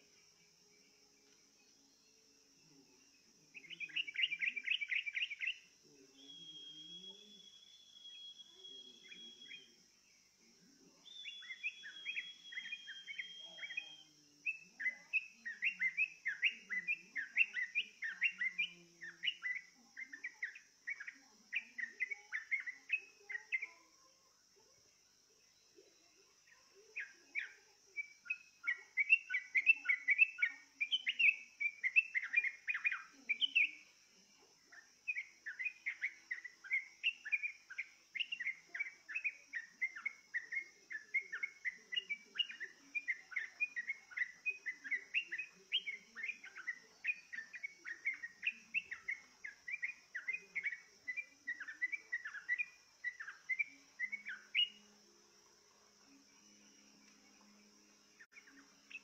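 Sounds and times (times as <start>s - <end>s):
bird song bubbly chirping: 3.4s - 23.8s, 25.5s - 59.0s.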